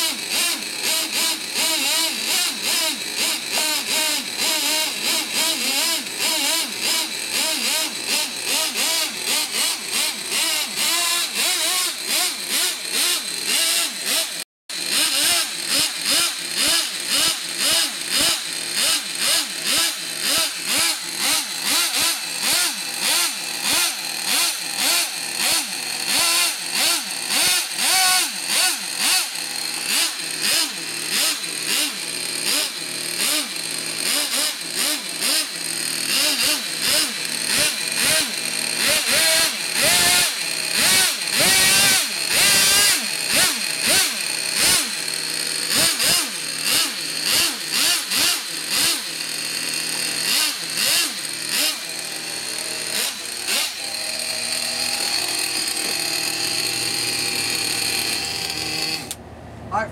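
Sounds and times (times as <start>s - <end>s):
model engines revving in blips: 0.0s - 59.2s.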